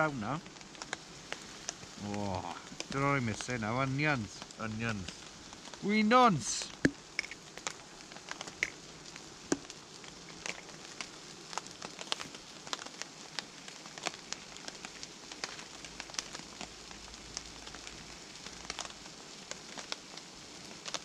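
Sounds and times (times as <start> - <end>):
fat popping and crackling: 0.0 - 21.0
food sizzling in a pan: 0.0 - 21.0.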